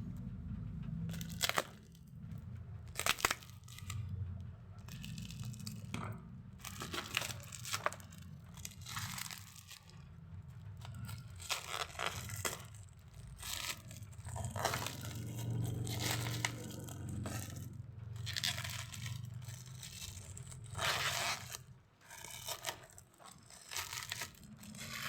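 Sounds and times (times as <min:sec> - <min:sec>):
steady low hum: 0:00.0 - 0:25.0
plastic wrapping crinkling: 0:01.1 - 0:02.1, 0:02.9 - 0:04.1, 0:04.8 - 0:25.0.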